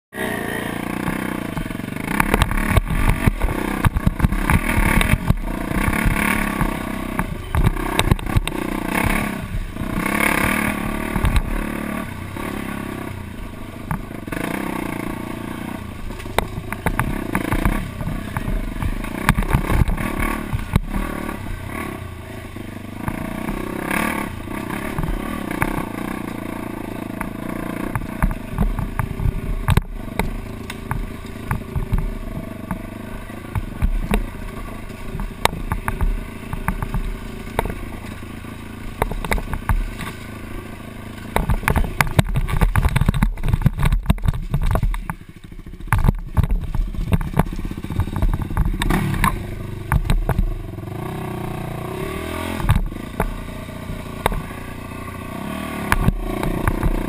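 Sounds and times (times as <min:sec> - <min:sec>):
dirt bike engine revving: 0:00.1 - 0:57.0
knocks and clatter from rough ground: 0:01.0 - 0:15.4, 0:16.0 - 0:21.9, 0:23.0 - 0:51.2, 0:52.0 - 0:57.0.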